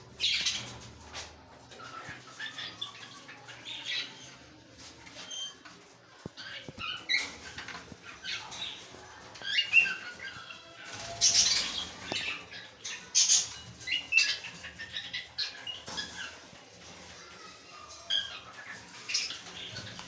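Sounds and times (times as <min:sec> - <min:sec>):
lovebirds chirping and squawking: 0:00.0 - 0:20.0.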